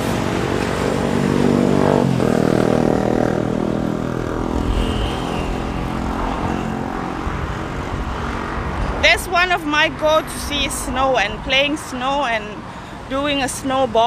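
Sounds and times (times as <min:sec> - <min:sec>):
motorbike passing by: 0:00.0 - 0:13.1
road traffic: 0:00.0 - 0:14.0
wind rumble on microphone: 0:00.0 - 0:14.0.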